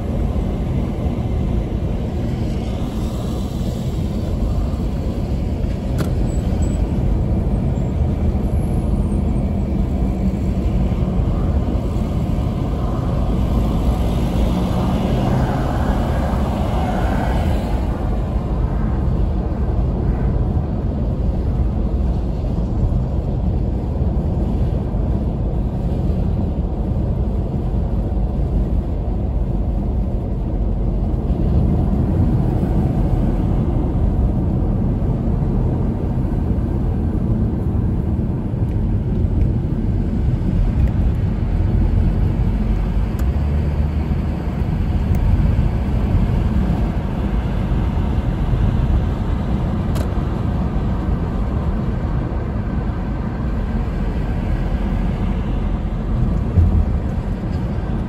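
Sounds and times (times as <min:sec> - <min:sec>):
car road noise at highway speed: 0:00.0 - 0:58.0.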